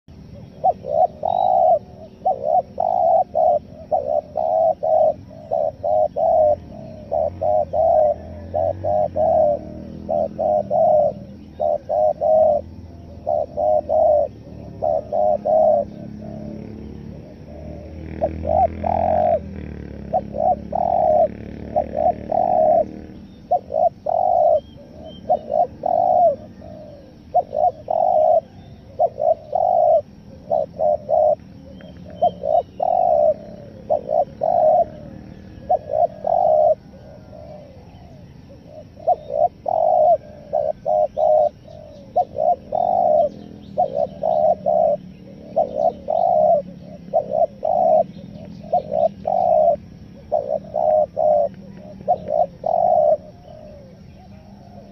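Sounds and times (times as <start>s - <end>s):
small birds chirping: 0.0s - 54.9s
dove cooing: 0.1s - 54.9s.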